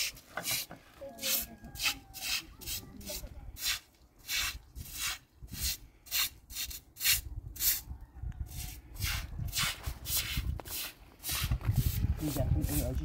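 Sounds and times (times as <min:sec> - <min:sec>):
hand broom sweeping: 0:00.0 - 0:07.8, 0:08.5 - 0:13.0.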